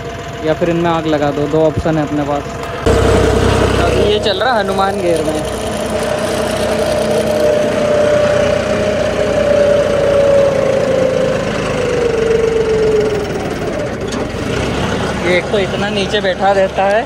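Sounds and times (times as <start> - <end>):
engine whine: 0.0 - 17.0
tractor engine running: 0.0 - 17.0.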